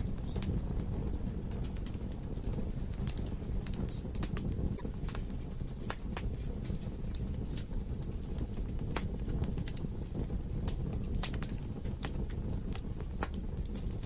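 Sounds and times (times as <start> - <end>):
fire rumbling in fireplace: 0.0 - 14.0
wood crackling and popping: 0.0 - 14.0.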